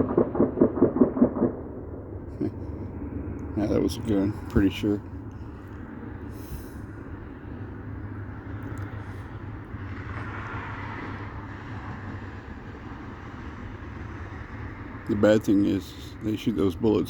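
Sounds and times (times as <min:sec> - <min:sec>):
distant vehicle rumble: 0:00.0 - 0:17.0.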